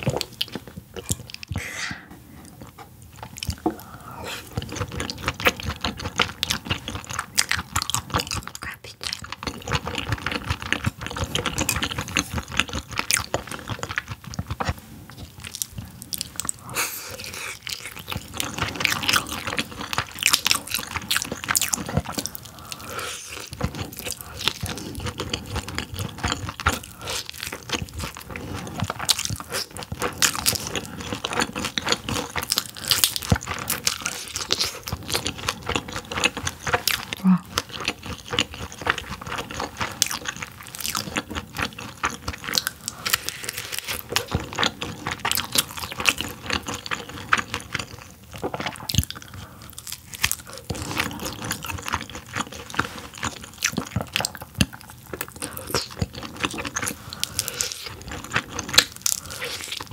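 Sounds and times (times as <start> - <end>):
close chewing with crunches: 0.0 - 1.6, 2.4 - 59.9.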